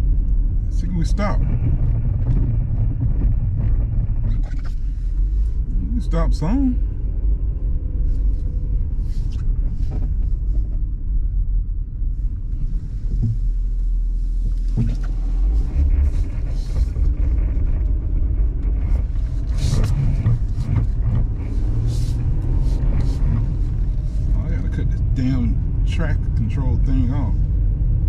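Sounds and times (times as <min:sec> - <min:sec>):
vehicle engine and tyre rumble: 0:00.0 - 0:28.0.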